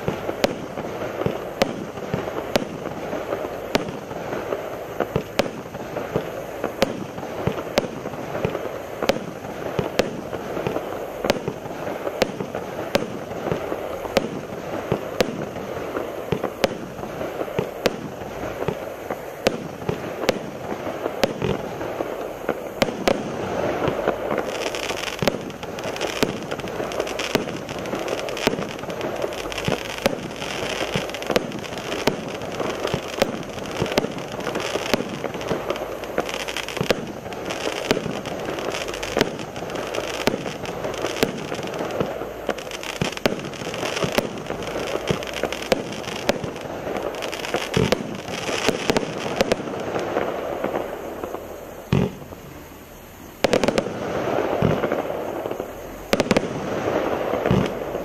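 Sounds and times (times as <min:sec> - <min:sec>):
firework crackling: 0:00.0 - 0:58.0
firework shots and aerial bursts: 0:00.0 - 0:58.0.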